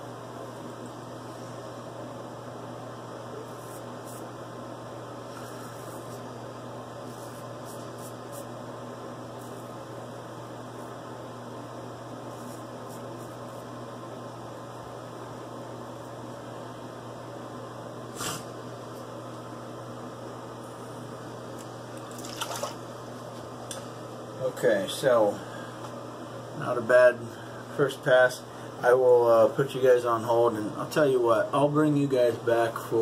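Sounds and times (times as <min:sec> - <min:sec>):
room noise hum and hiss: 0:00.0 - 0:33.0.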